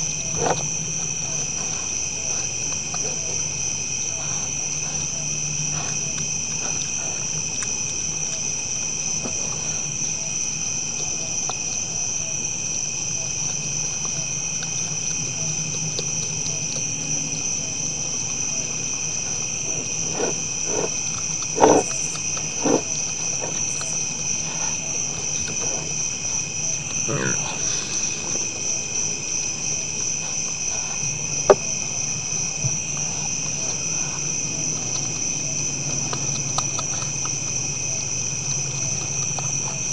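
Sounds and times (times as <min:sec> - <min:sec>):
deer feeding sounds: 0:00.0 - 0:39.9
night insects trilling: 0:00.0 - 0:39.9.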